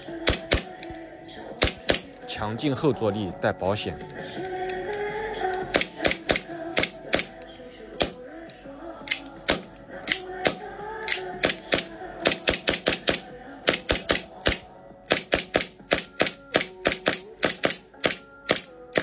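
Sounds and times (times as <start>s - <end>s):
toy pistol metal clacks: 0.2s - 1.0s, 1.6s - 2.3s, 4.1s - 8.3s, 9.0s - 19.0s.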